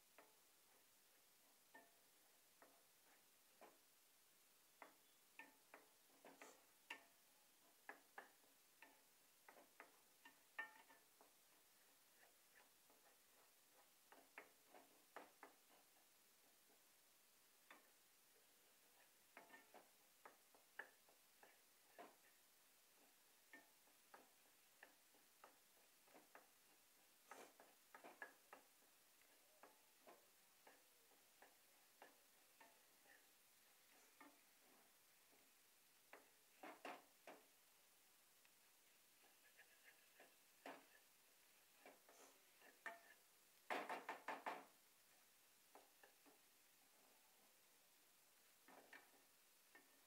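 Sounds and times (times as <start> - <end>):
spatula scraping frying pan: 1.6 - 3.9, 4.8 - 17.0, 17.6 - 50.0.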